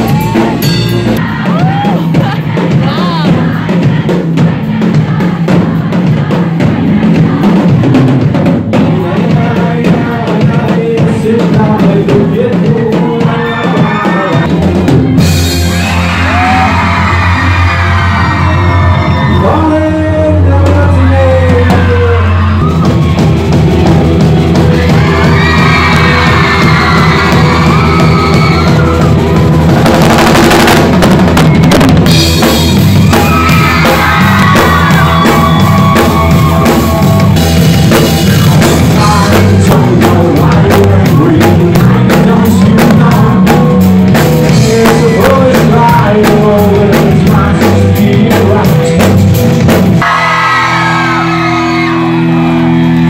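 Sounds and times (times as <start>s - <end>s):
bass guitar: 0.0s - 53.0s
drum kit: 0.0s - 53.0s
live rock band playing loudly: 0.0s - 53.0s.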